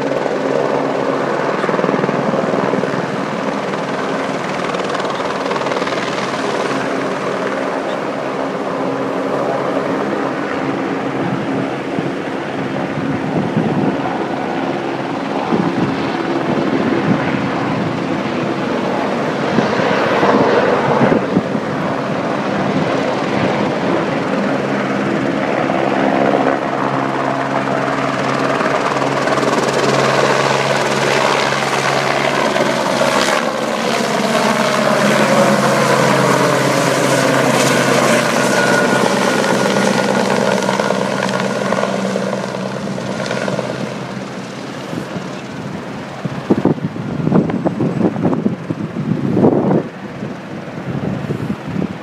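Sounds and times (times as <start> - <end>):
helicopter passing overhead: 0.0 - 52.0.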